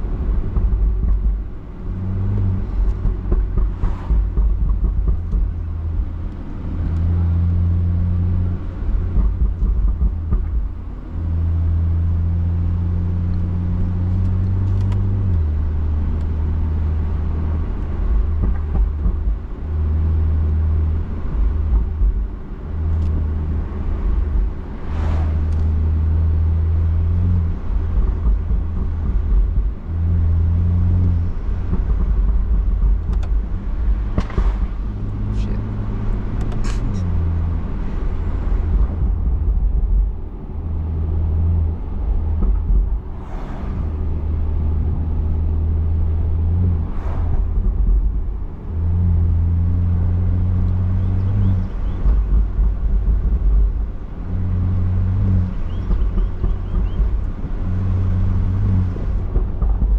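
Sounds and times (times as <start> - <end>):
car exhaust drone from inside: 0.0 - 59.9.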